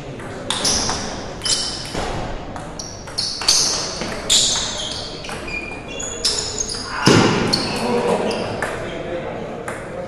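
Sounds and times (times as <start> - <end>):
table tennis ball hits: 0.2 - 5.8, 6.4 - 8.8.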